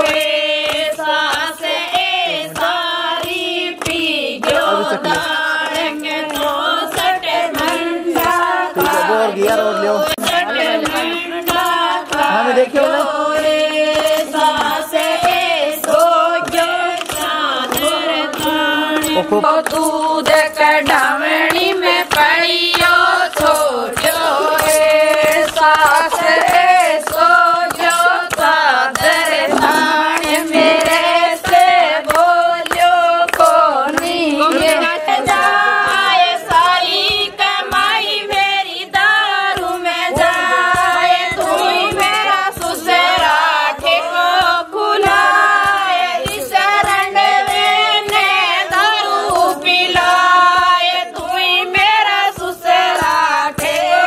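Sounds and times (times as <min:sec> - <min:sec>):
hand-clapping: 0:00.0 - 0:54.0
women singing a folk song: 0:00.0 - 0:54.0.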